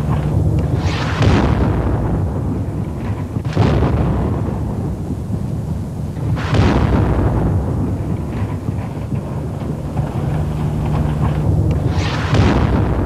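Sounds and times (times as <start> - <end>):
continuous low rumble: 0.0 - 13.0
heavy explosion: 0.0 - 13.0.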